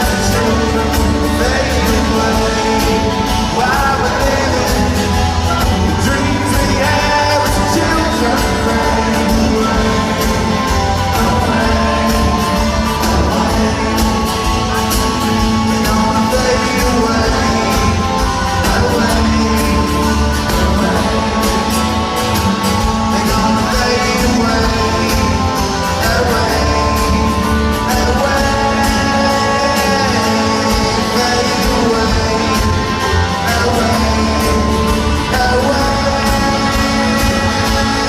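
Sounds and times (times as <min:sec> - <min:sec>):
live rock band playing: 0:00.0 - 0:38.0.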